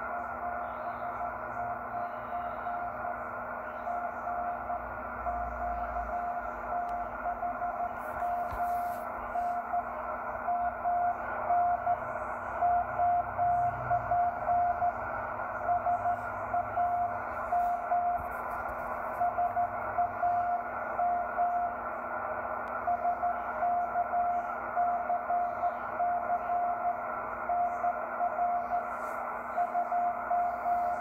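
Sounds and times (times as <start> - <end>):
morse code tone: 0.0 - 21.9, 22.7 - 31.0
radio static hiss: 0.0 - 31.0.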